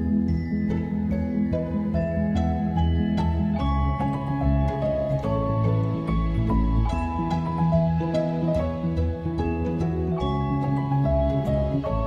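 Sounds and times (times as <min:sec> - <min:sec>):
gentle background music: 0:00.0 - 0:12.0.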